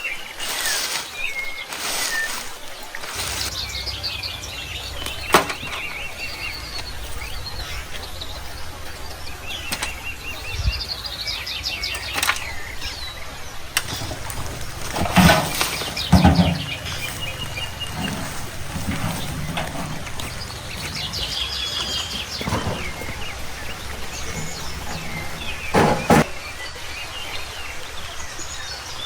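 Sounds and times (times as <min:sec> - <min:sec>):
birds chirping in trills: 0:00.0 - 0:29.0.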